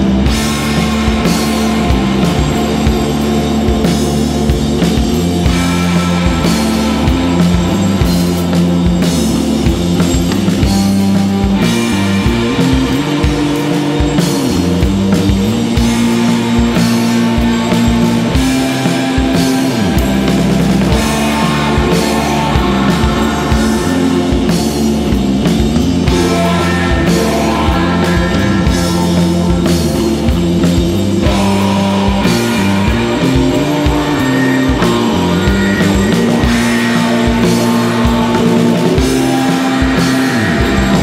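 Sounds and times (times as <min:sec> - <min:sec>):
bass guitar: 0:00.0 - 0:41.0
looped guitars: 0:00.0 - 0:41.0
steady drum beat: 0:00.0 - 0:41.0.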